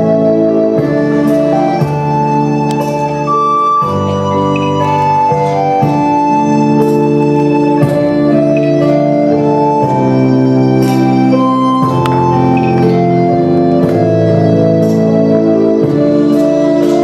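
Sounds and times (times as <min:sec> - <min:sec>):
organ playing slow chords: 0:00.0 - 0:17.0.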